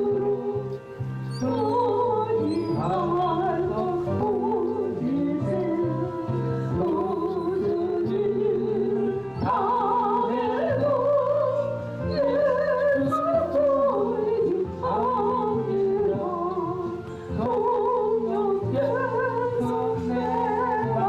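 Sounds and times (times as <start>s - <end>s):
instrumental backing: 0.0s - 21.0s
person singing with vibrato: 0.0s - 21.0s.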